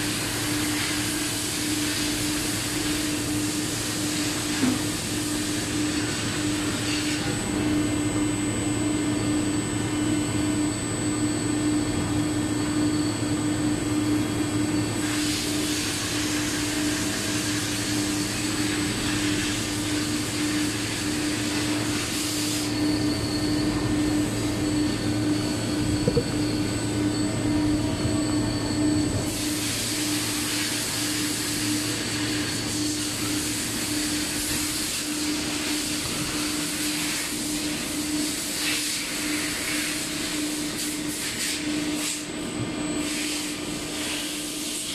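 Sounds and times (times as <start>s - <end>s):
machinery hum: 0.0s - 44.9s.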